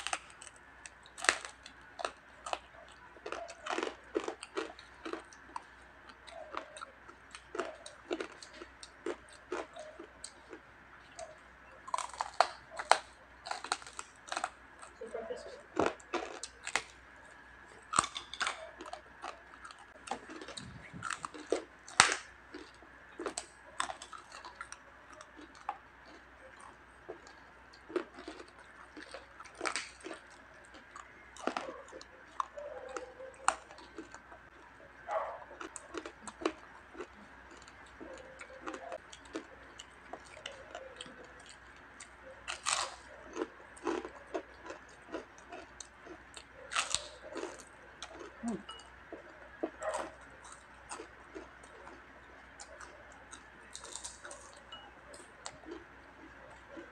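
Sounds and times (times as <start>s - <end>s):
crunching crispy skin: 0.0s - 56.9s.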